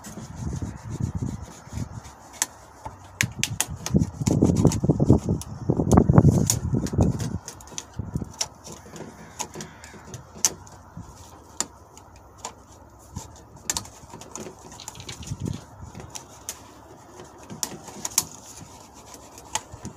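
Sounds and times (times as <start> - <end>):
tape measure rubbing and clicking: 0.0 - 19.9.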